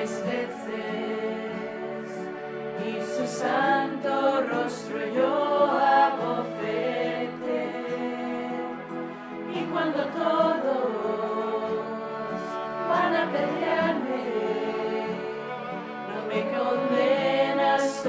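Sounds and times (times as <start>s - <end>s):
choir singing a hymn: 0.0s - 18.0s.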